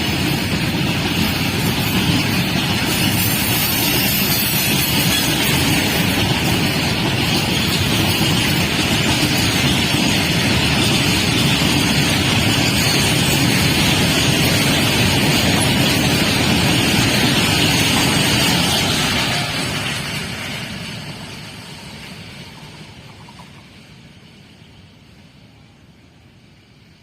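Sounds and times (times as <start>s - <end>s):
rail hiss: 0.0s - 27.0s
train wheels rumbling on rails: 0.0s - 27.0s.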